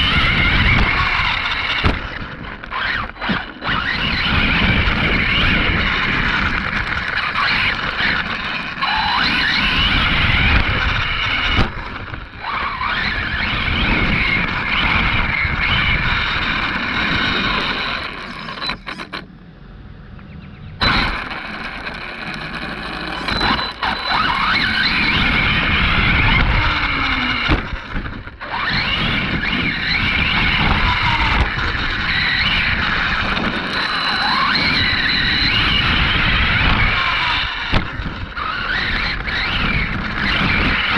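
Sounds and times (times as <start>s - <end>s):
electric motor whining: 0.0s - 19.3s, 20.0s - 40.9s
rough noise of toy truck running: 0.0s - 19.3s, 20.8s - 40.9s.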